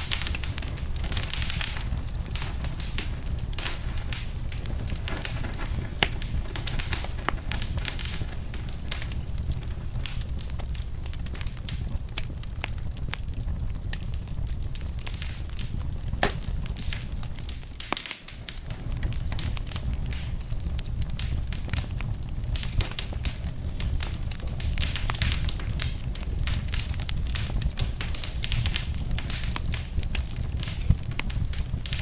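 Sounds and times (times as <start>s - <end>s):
fire low rumble: 0.0s - 32.0s
wood fire crackling and popping: 0.0s - 32.0s.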